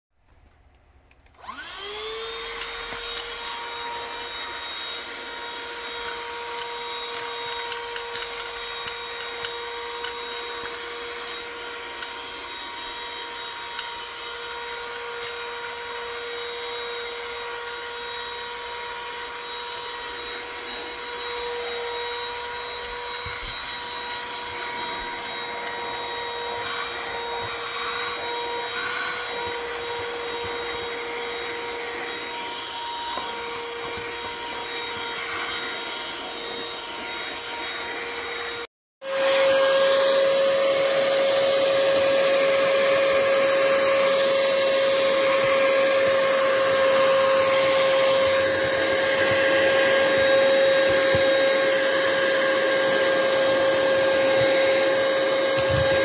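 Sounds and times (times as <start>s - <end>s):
handheld vacuum cleaner running: 1.4s - 56.0s.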